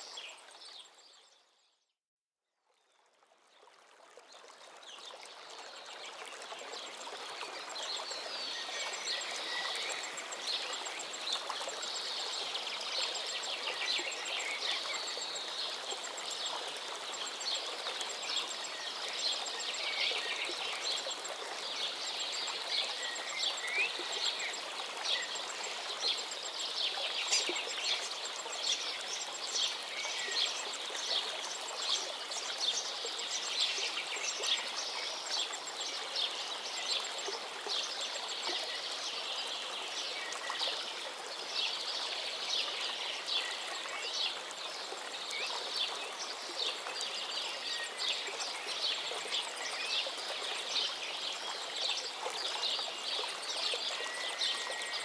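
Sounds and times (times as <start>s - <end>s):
stream flowing over rocks: 2.6s - 55.0s.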